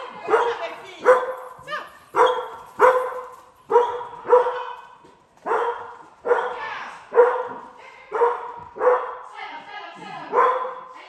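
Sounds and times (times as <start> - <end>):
dog barking: 0.1 - 9.3, 10.3 - 11.0.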